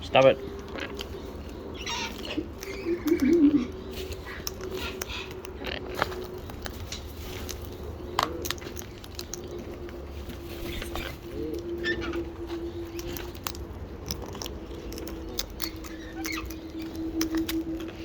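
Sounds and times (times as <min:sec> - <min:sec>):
low hum: 0:00.0 - 0:18.0
parrots crunching seed: 0:00.0 - 0:18.0
soft bird chirps: 0:00.0 - 0:18.0.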